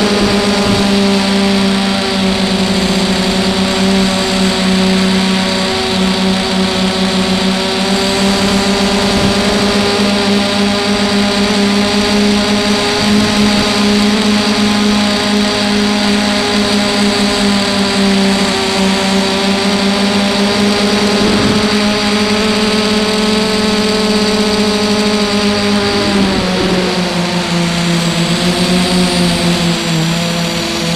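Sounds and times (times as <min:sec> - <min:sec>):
drone motors whining: 0:00.0 - 0:30.9.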